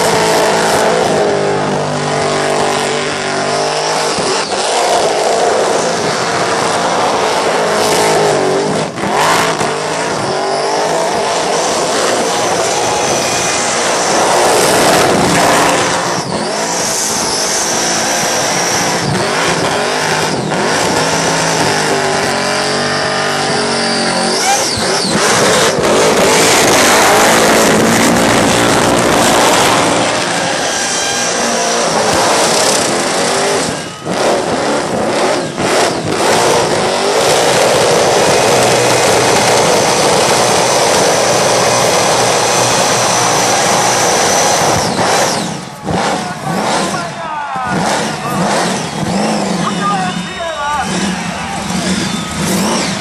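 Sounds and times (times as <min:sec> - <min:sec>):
car engine at high revs: 0:00.0 - 0:53.0
tyres screeching on pavement: 0:00.0 - 0:53.0.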